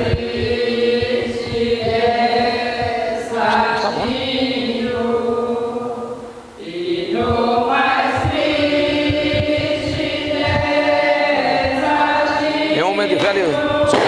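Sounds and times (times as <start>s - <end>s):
congregation singing a hymn: 0.0s - 14.0s.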